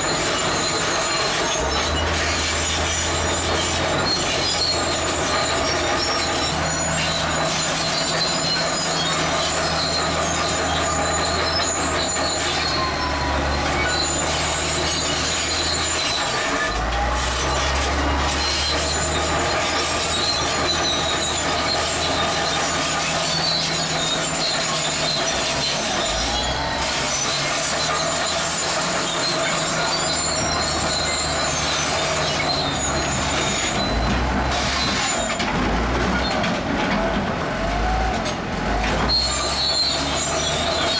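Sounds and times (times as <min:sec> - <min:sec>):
bulldozer engine: 0:00.0 - 0:40.9
steel tracks squealing: 0:00.0 - 0:40.9.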